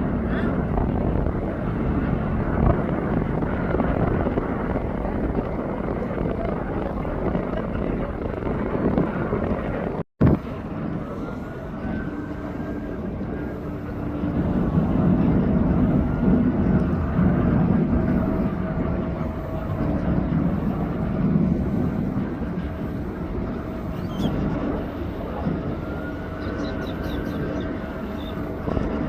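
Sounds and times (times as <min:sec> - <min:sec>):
jet airliner engines running: 0:00.0 - 0:29.0.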